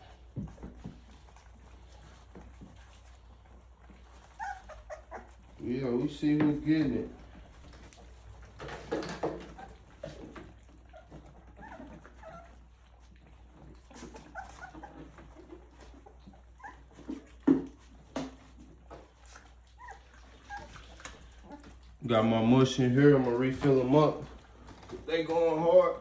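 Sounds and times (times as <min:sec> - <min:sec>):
puppies whimpering and squeaking: 0:00.0 - 0:26.0.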